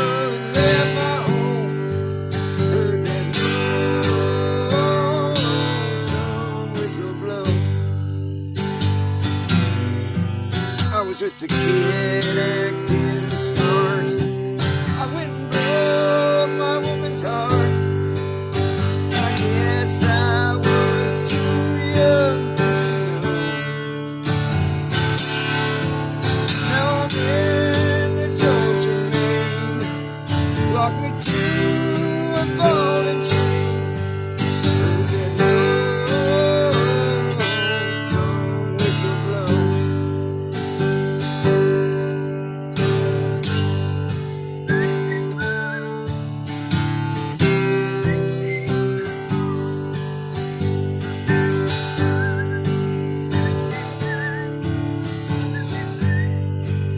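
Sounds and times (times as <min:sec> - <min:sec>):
country song on acoustic guitar: 0:00.0 - 0:56.9.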